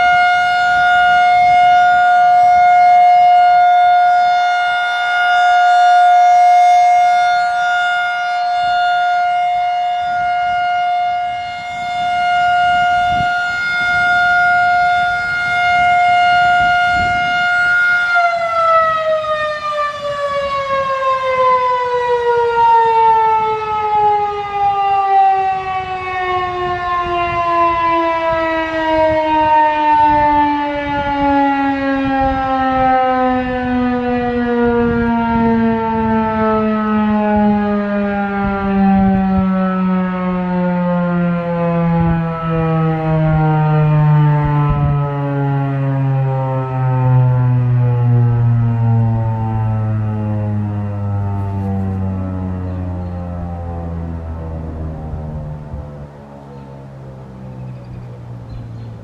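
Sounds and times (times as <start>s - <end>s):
outdoor warning siren: 0.0s - 59.0s.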